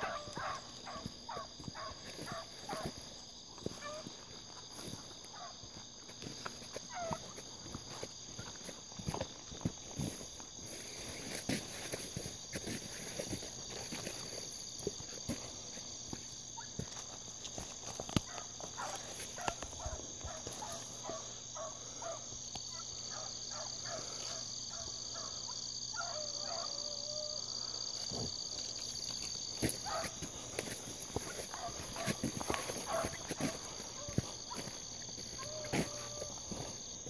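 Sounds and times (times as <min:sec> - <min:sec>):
footsteps crunching on dirt: 0:00.0 - 0:21.7, 0:28.0 - 0:37.0
crickets chirping: 0:00.0 - 0:37.0
distant hounds barking and baying: 0:00.0 - 0:37.0.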